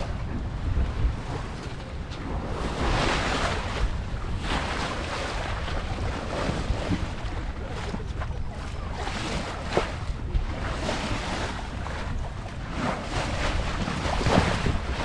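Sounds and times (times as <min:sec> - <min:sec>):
sea water washing along hull: 0:00.0 - 0:15.0
wind buffeting microphone: 0:00.0 - 0:15.0.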